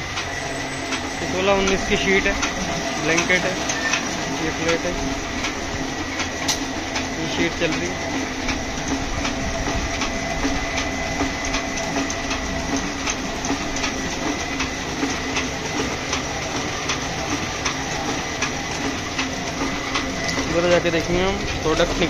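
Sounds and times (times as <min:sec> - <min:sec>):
high machine whine: 0:00.0 - 0:22.0
printing press clattering: 0:00.0 - 0:22.0
regular mechanical clicks: 0:00.0 - 0:22.0.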